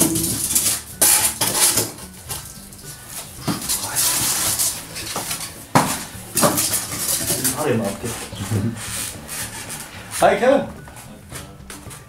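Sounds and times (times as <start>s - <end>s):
foam board rubbing and scraping: 0.0s - 12.0s.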